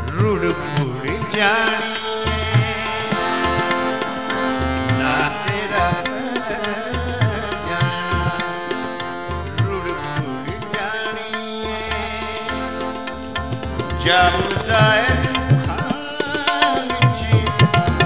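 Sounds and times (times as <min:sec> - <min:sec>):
tabla drumming: 0:00.0 - 0:18.0.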